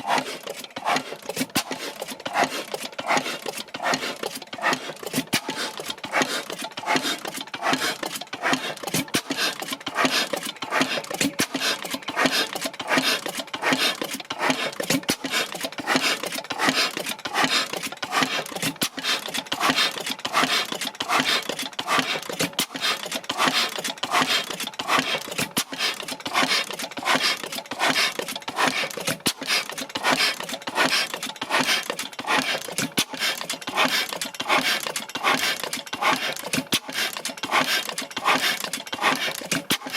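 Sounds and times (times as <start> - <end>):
oil engine clattering: 0.1 - 39.9.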